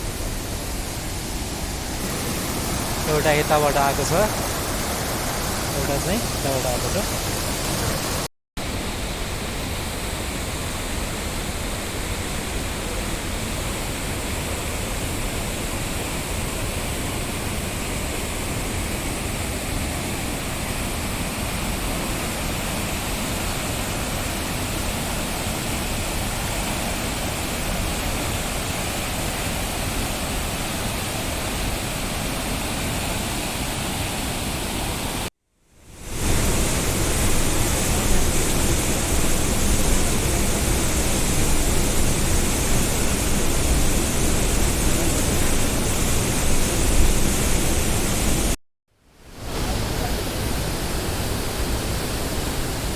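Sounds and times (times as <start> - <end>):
mountain stream rushing: 0.0 - 35.3, 35.9 - 48.6, 49.2 - 52.9.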